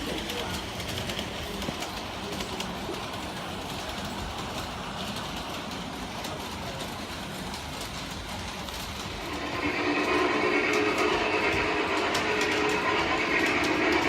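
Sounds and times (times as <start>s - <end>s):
model train wheels rumbling on rails: 0.0s - 14.0s.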